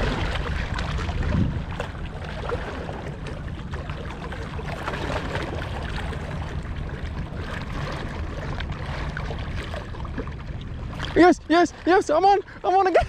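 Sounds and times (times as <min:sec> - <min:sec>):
low rumble: 0:00.0 - 0:13.0
small waves lapping on shore: 0:00.0 - 0:13.0.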